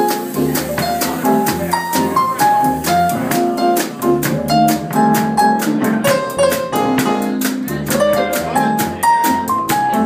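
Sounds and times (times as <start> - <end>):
drum kit cymbal beat: 0.0 - 10.0
keyboard playing jazz: 0.0 - 10.0
walking upright bass: 0.0 - 10.0.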